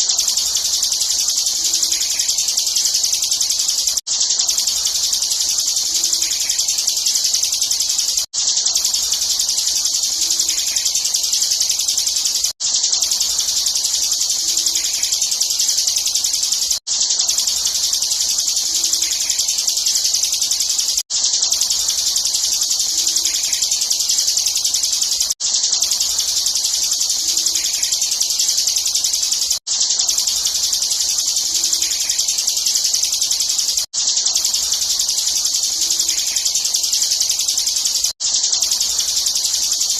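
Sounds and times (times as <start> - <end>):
bird singing high-pitched trill: 0.0 - 39.9.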